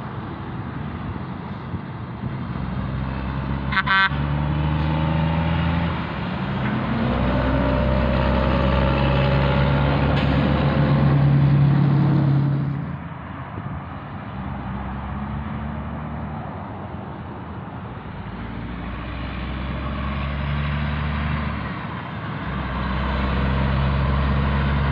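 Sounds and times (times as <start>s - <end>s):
diesel truck engine passing: 0.0s - 24.9s
road traffic: 0.0s - 24.9s.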